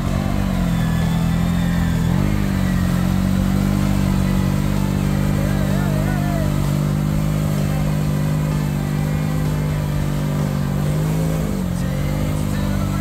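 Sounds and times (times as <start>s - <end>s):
atv engine revving: 0.0s - 13.0s
tyres churning through mud: 0.0s - 13.0s.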